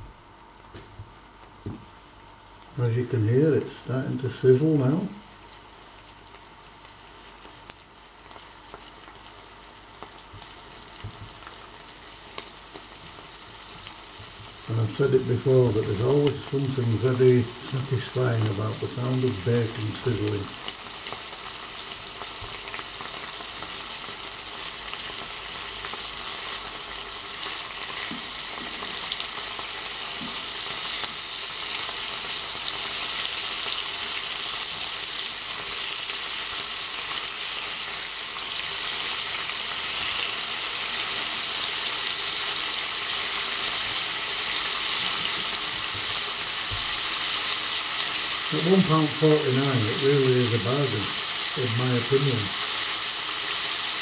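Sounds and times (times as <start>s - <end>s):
bacon sizzling in a frying pan: 4.8s - 54.0s
tongs turning bacon in pan: 5.5s - 54.0s.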